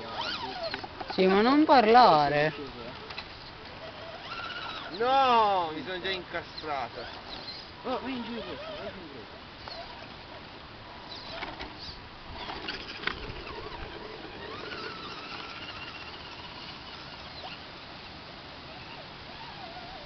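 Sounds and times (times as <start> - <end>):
toy car scraping over rock: 0.0 - 10.4, 11.0 - 17.6, 18.7 - 20.0.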